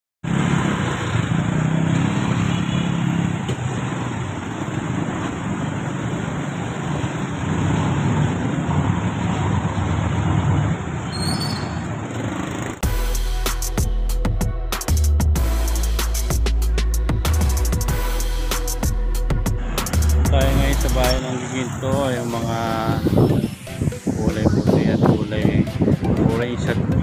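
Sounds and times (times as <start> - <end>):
street traffic engines: 0.2 - 14.2, 14.8 - 27.0.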